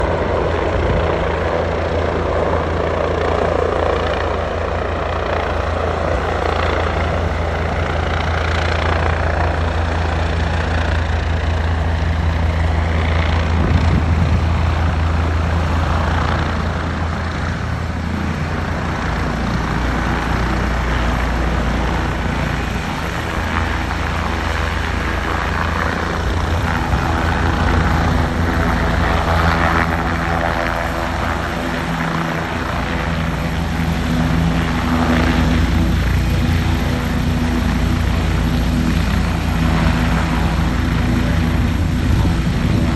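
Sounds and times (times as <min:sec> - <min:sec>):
helicopter rotor and engine drone: 0:00.0 - 0:42.9.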